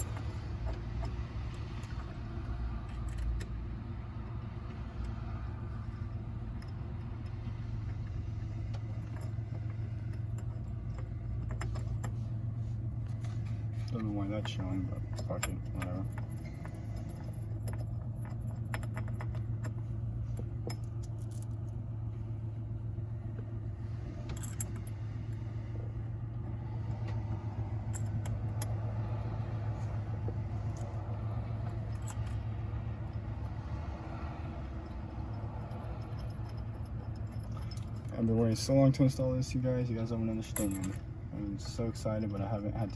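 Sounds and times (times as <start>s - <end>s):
small metal parts clinking: 0.0s - 42.9s
steady low hum: 0.0s - 42.9s.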